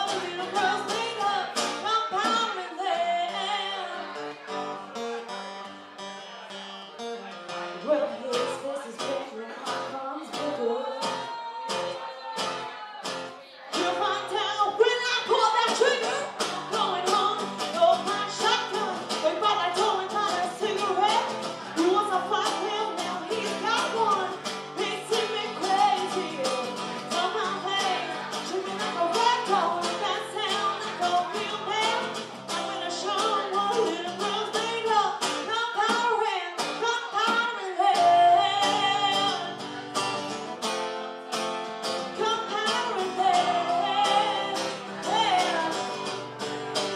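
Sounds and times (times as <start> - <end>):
woman singing: 0.0 - 4.2, 7.8 - 40.4, 42.0 - 46.9
guitar: 0.0 - 46.9.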